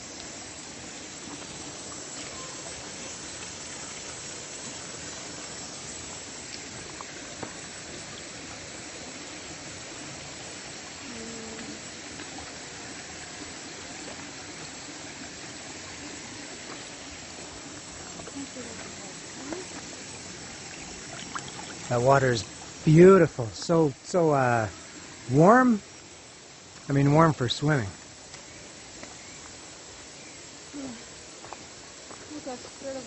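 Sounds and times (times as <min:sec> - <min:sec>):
river flowing: 0:00.0 - 0:33.0.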